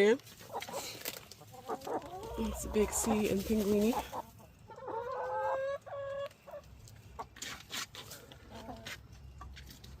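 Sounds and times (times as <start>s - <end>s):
hens calling: 0.4s - 7.4s, 8.0s - 9.6s.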